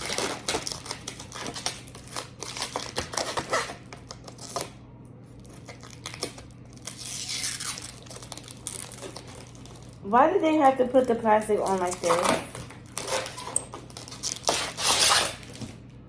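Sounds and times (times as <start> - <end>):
plastic film peeling and crinkling: 0.0 - 4.7, 5.4 - 10.0, 11.0 - 15.8.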